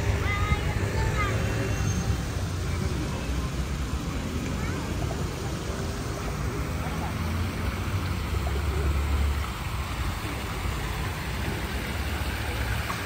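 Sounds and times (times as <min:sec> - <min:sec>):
fountain splashing into basin: 0:00.0 - 0:13.0.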